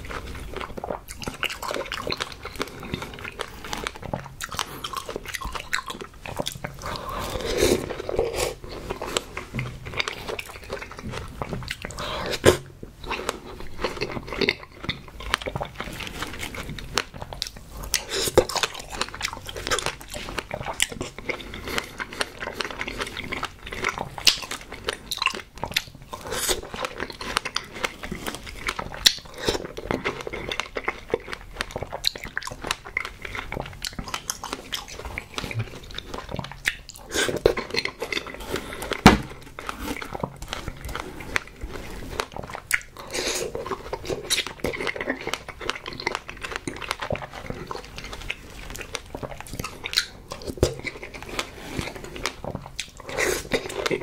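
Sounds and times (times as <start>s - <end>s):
wet chewing mouth clicks: 0.0s - 54.0s.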